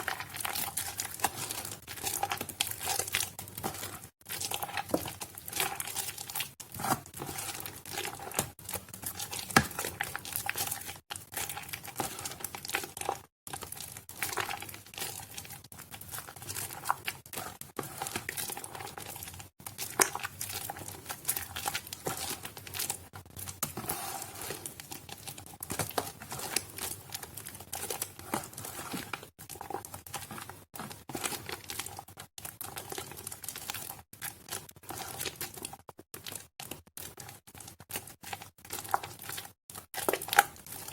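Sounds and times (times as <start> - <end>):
wet soap crackling: 0.0 - 40.9.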